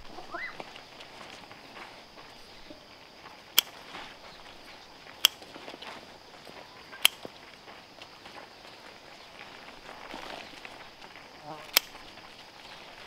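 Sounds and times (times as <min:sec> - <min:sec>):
faint high insect hum: 0:00.0 - 0:13.0.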